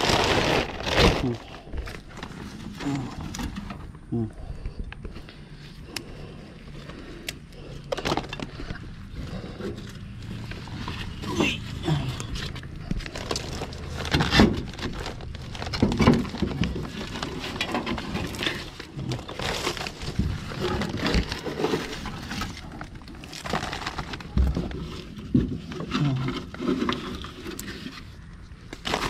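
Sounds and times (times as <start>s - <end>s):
leaves rustling and scraping: 0.0s - 3.9s, 8.0s - 29.0s.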